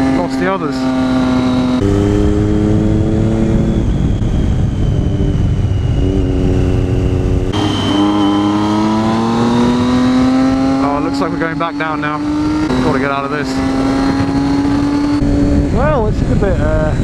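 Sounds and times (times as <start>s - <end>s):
motorcycle engine shifting gears: 0.0s - 16.4s
wind rush: 0.0s - 17.0s.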